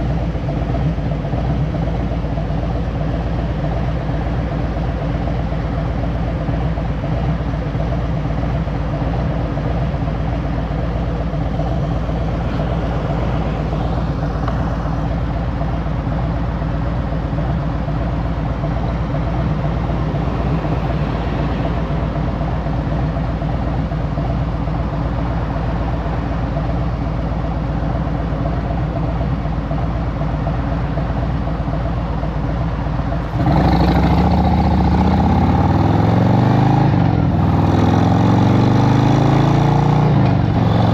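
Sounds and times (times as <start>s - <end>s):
motorcycle engine running and accelerating: 0.0s - 40.9s.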